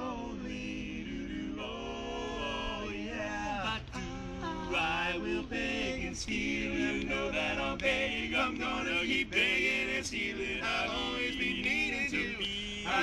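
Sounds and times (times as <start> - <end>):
men singing in close harmony: 0.0 - 13.0.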